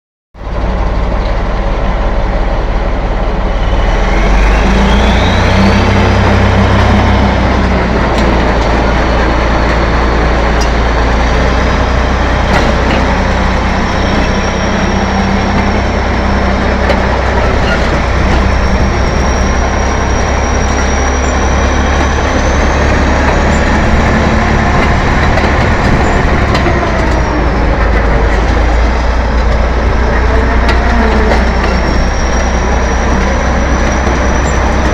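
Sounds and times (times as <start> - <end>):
bulldozer diesel engine running: 0.4 - 34.9.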